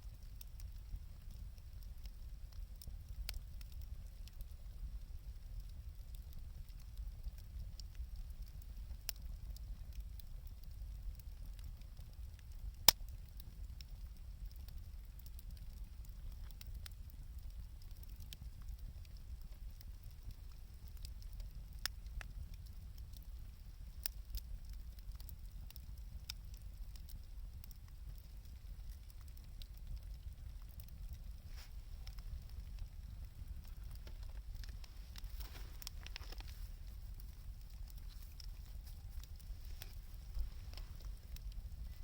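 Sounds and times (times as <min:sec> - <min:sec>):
campfire crackling and popping: 0:00.0 - 0:42.0
low steady rumble: 0:00.0 - 0:42.0.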